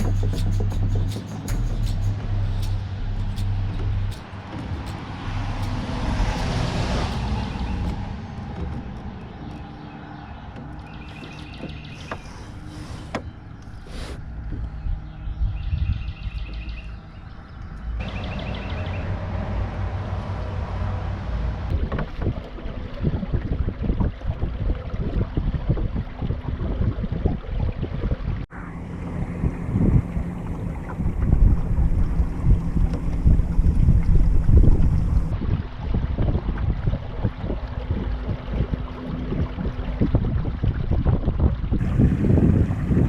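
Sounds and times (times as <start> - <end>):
water sloshing: 0.0 - 43.0
wind buffeting microphone: 0.0 - 43.0.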